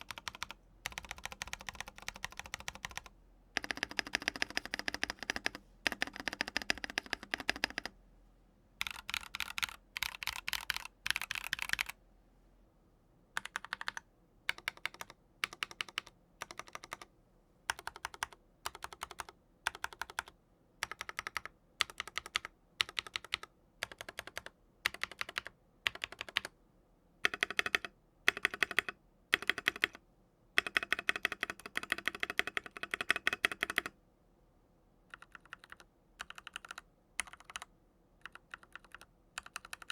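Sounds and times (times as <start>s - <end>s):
mechanical keyboard typing: 0.0s - 8.0s, 8.8s - 12.0s, 13.4s - 17.1s, 17.7s - 26.6s, 27.2s - 30.0s, 30.6s - 34.0s, 35.1s - 39.9s.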